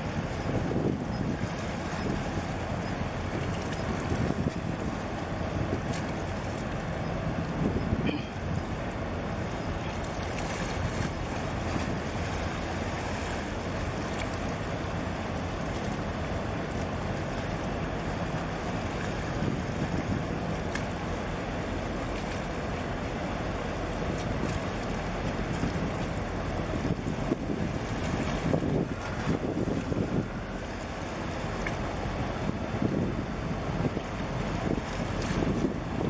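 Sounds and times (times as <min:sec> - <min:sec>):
wind buffeting microphone: 0:00.0 - 0:15.4, 0:17.8 - 0:21.9, 0:24.0 - 0:36.0
water washing: 0:00.0 - 0:36.0.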